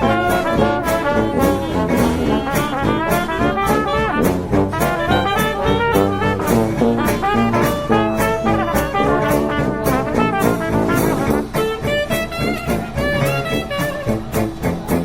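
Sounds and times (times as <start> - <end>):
upbeat jazzy brass music: 0.0 - 15.0.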